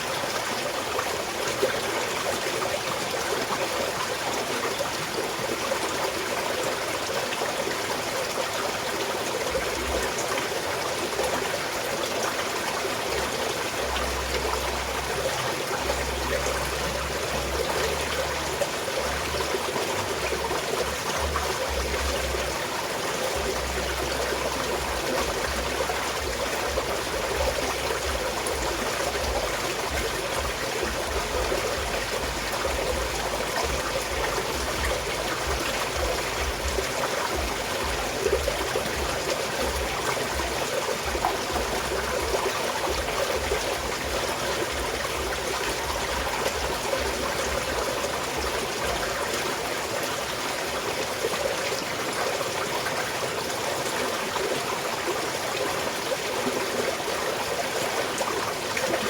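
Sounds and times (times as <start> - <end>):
mountain stream babbling: 0.0 - 59.0.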